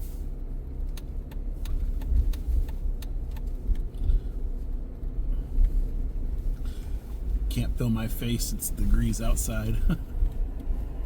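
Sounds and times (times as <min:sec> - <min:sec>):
car driving on road: 0:00.0 - 0:11.0.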